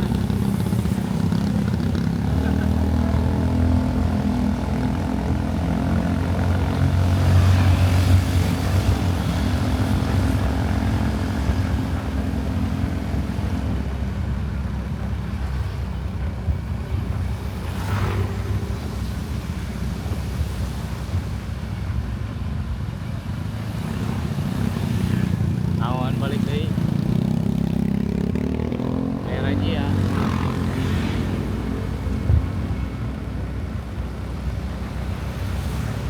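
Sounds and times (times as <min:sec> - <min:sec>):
motorcycle engine running: 0:00.0 - 0:20.5, 0:23.0 - 0:36.0.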